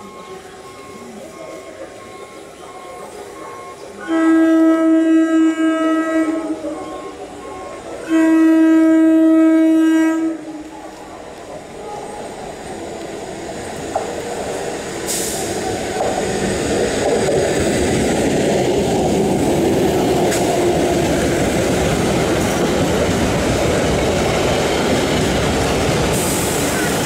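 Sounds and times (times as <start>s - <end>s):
electric train running past: 0.0s - 27.0s.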